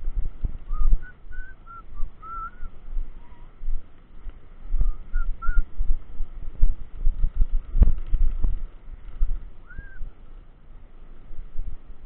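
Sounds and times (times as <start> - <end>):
road rumble: 0.0 - 12.0
wind buffeting: 0.0 - 12.0.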